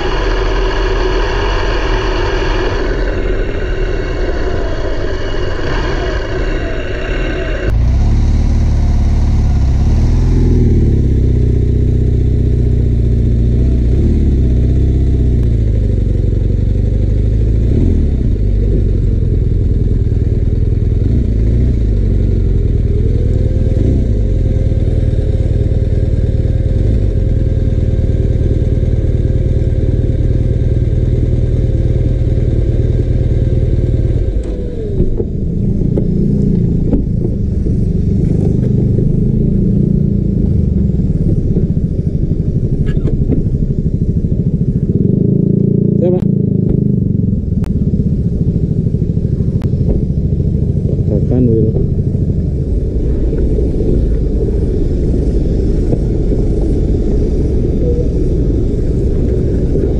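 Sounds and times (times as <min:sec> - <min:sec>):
motorcycle engine running: 0:00.0 - 0:59.9
steady whine: 0:00.0 - 0:59.9.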